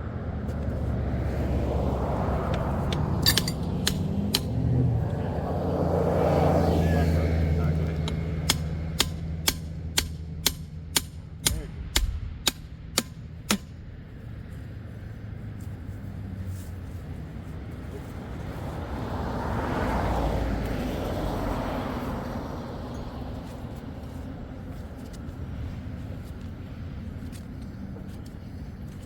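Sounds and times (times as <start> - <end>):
vehicle passing: 0.0 - 29.0.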